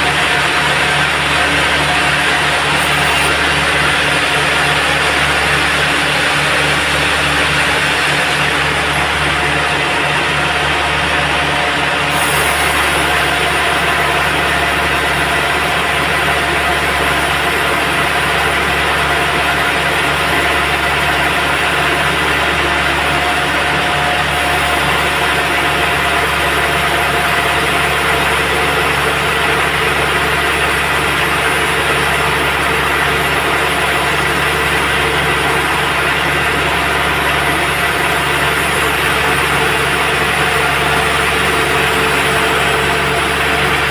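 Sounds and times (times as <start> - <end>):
sawmill machinery drone: 0.0 - 43.9
steady machine whine: 0.0 - 43.9.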